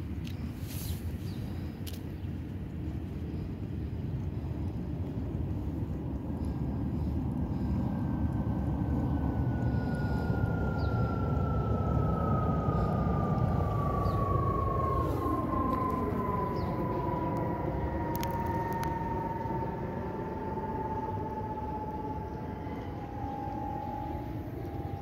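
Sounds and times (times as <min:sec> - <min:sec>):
jet airliner passing overhead: 0:00.0 - 0:25.0.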